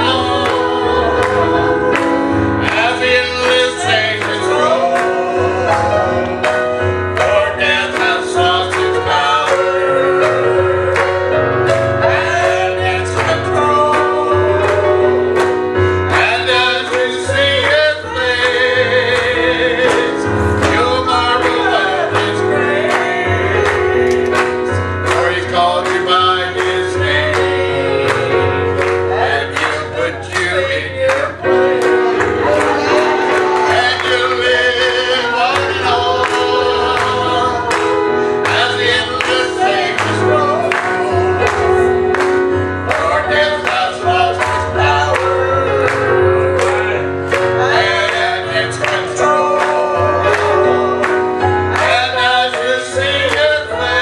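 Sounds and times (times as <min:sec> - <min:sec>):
voices singing: 0:00.0 - 0:54.0.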